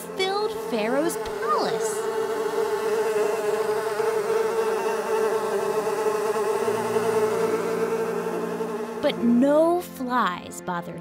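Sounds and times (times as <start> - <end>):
flies buzzing: 0.0 - 9.6.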